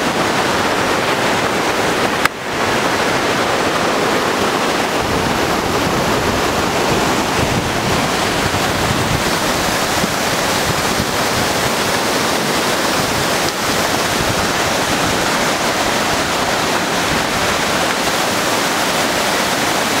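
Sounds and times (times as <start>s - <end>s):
waterfall rushing into pool: 0.0s - 20.0s.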